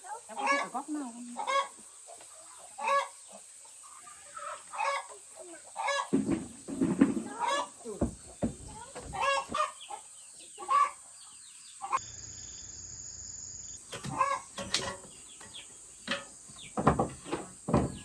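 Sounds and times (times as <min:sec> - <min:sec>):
chickens clucking: 0:00.1 - 0:12.0, 0:13.8 - 0:18.0.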